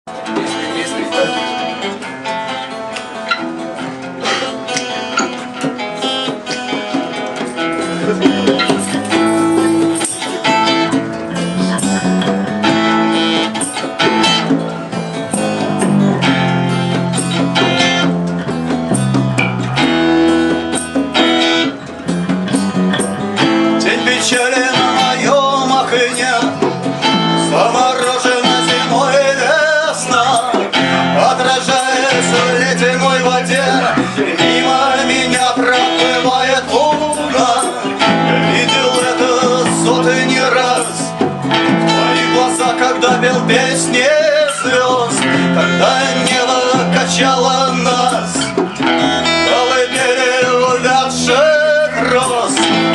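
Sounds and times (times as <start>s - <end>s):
plucked guitar: 0.1s - 52.9s
rock band playing: 0.1s - 52.9s.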